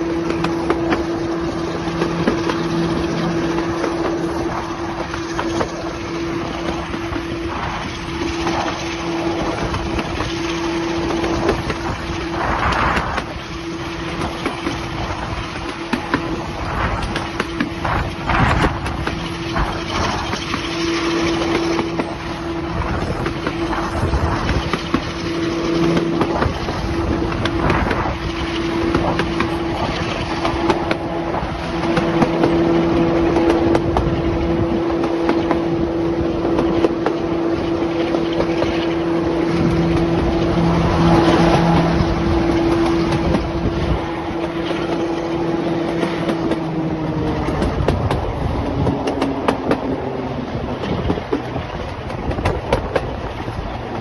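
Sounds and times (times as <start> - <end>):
diesel locomotive engine running: 0.0 - 54.0
wheels clicking on rails: 0.0 - 54.0.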